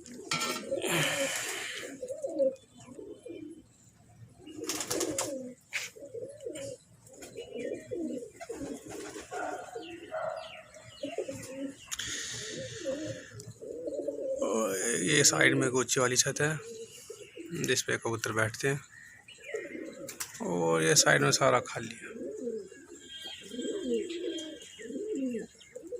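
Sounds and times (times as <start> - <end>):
pigeons cooing: 0.0 - 25.9.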